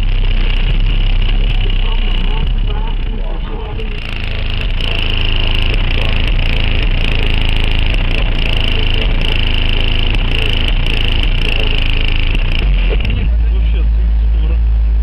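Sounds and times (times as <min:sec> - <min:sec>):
bass-heavy music from car subwoofers: 0:00.0 - 0:15.0.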